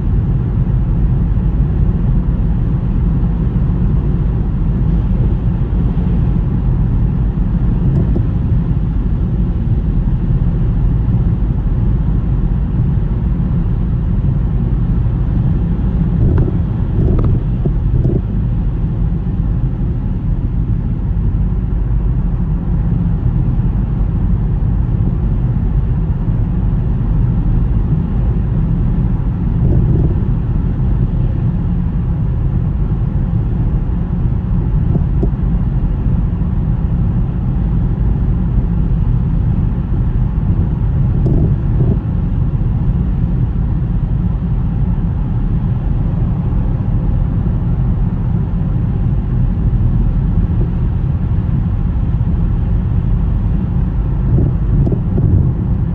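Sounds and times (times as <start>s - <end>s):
car driving on snowy road: 0.0s - 55.9s.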